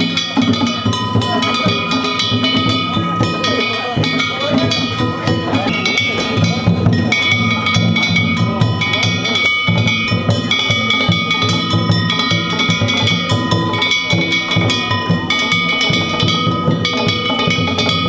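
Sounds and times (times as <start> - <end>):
drums beating quick rhythm: 0.0 - 18.0
small gongs ringing: 0.0 - 18.0.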